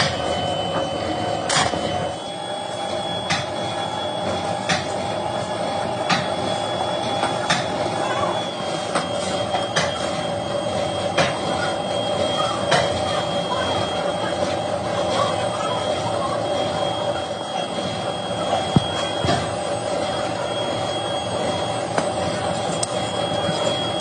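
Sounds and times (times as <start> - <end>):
machinery whining: 0.0 - 24.0.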